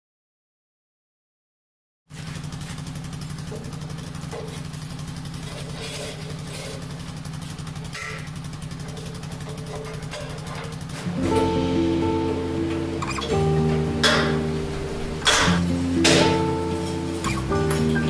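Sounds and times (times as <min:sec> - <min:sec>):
gasoline engine running: 0:02.1 - 0:18.0.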